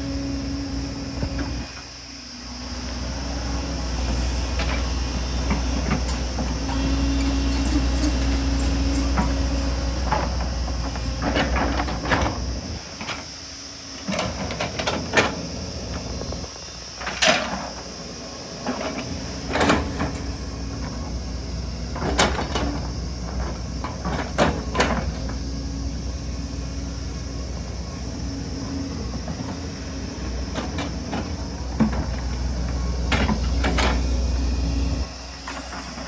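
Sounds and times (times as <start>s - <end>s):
excavator diesel engine: 0.0s - 36.0s.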